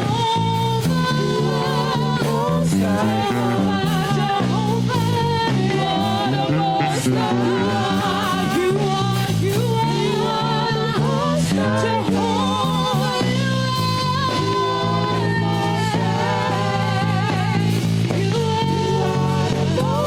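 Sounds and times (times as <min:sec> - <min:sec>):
held instrumental chords: 0:00.0 - 0:20.0
person singing with vibrato: 0:00.0 - 0:20.0.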